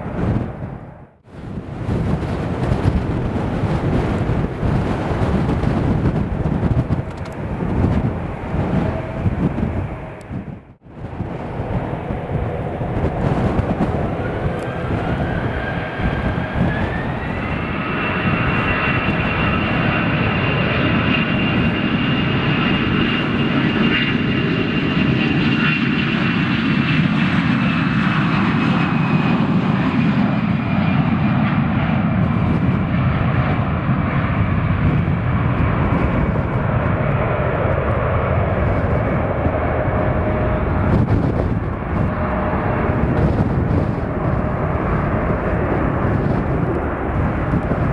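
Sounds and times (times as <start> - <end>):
jet engine rumble: 0.0 - 47.9
jet engine whine: 0.0 - 47.9.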